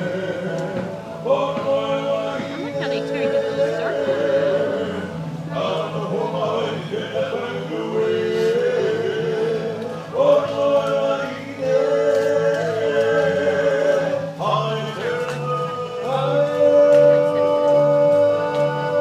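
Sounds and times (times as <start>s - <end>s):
group singing long held notes: 0.0s - 19.0s
low rhythmic pulse: 0.0s - 19.0s.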